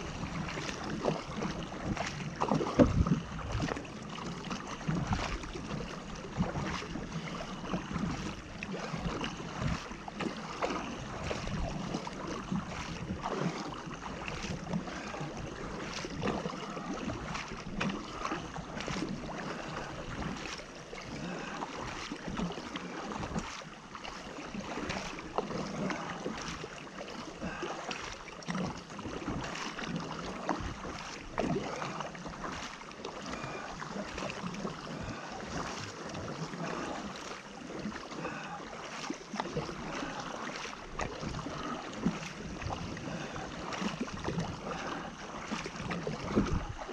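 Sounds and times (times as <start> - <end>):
paddle strokes splashing: 0.0 - 46.9
water rushing along kayak hull: 0.0 - 46.9.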